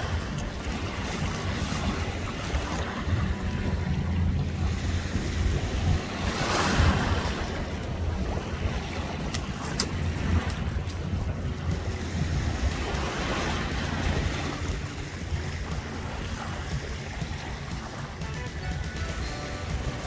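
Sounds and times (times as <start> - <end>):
small waves washing ashore: 0.0 - 20.0
wind rumble on microphone: 0.0 - 20.0.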